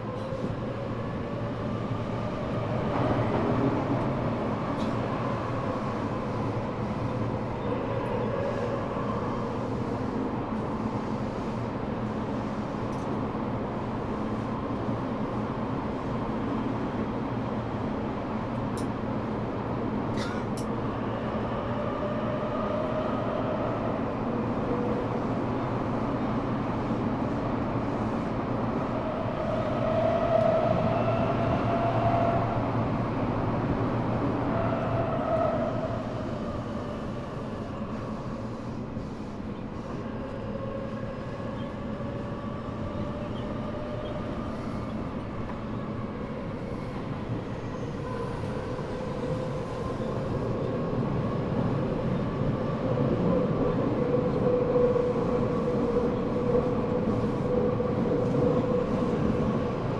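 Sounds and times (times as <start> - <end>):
subway car rumble: 0.0 - 59.9.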